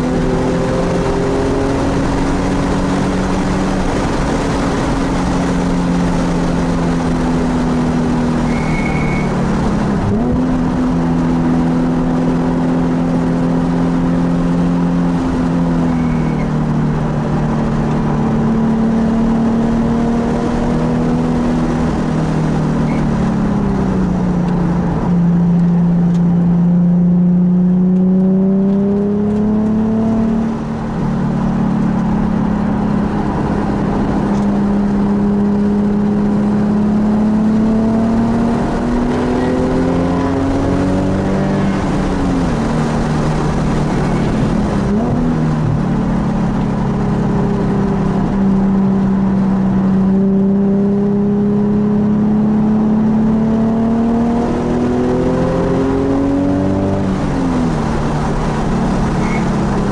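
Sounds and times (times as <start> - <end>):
car engine under load: 0.0 - 59.9.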